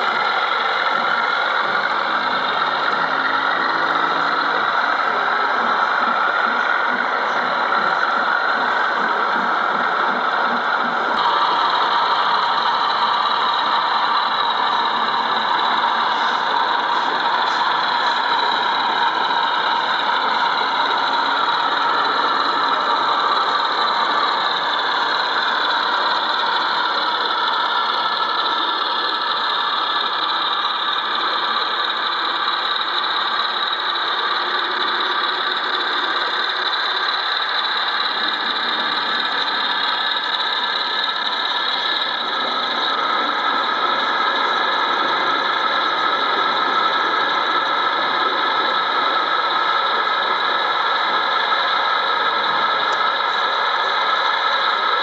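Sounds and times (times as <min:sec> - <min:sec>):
model diesel locomotive running: 0:00.0 - 0:55.0.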